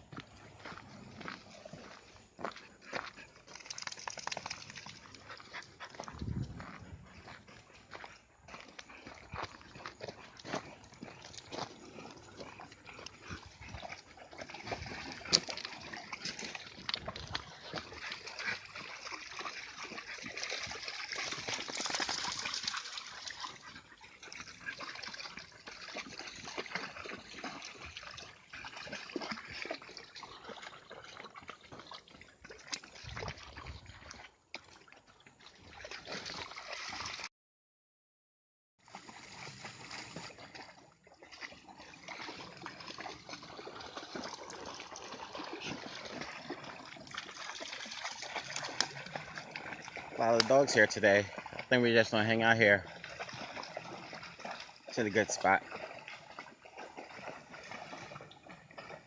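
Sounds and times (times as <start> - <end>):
stream trickling and gurgling: 0.0 - 37.3, 38.8 - 59.0
dogs splashing in water: 0.1 - 37.3, 38.8 - 59.0.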